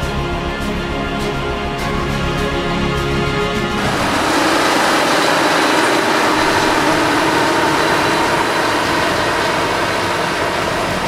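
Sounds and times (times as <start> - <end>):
combine harvester running: 0.6 - 11.0.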